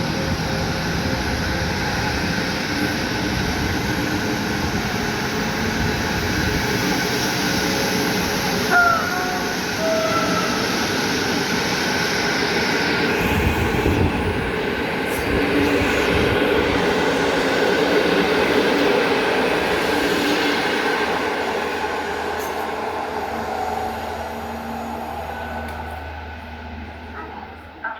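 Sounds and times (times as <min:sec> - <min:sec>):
passenger train rolling past: 0:00.0 - 0:27.9.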